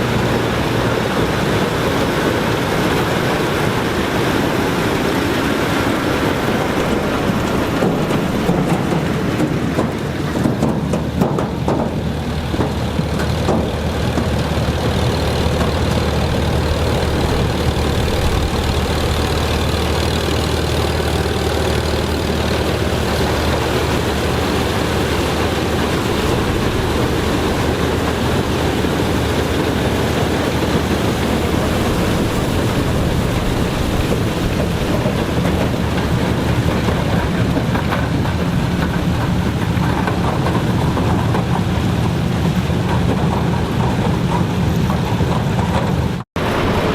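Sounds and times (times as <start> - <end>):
farm machinery engine humming: 0.0 - 46.9.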